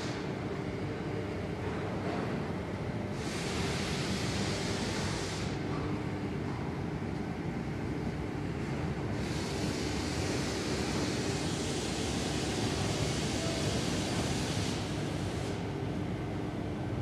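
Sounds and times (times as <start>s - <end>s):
factory machinery droning: 0.0s - 17.0s.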